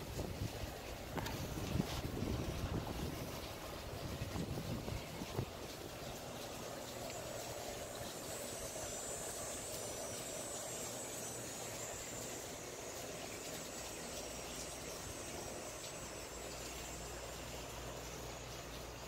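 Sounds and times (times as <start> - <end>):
even hiss: 0.0 - 19.0.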